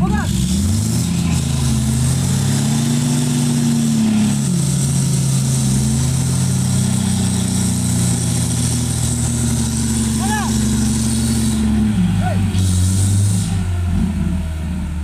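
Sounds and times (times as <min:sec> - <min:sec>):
engine running under load: 0:00.0 - 0:15.0.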